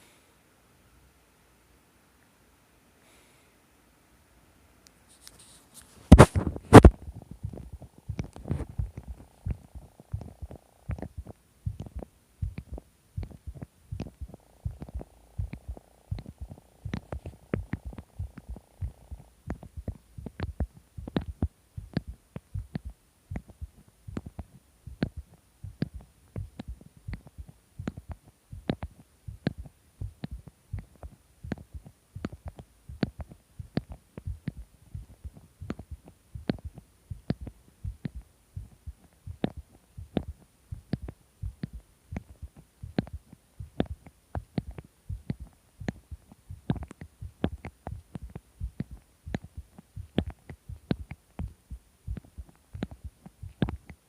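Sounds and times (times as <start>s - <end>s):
heartbeat thumps: 6.1s - 54.0s.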